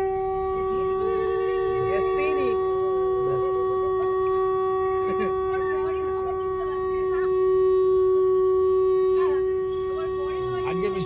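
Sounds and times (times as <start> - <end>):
conch shell blown: 0.0 - 11.0
faint voices: 0.0 - 11.0.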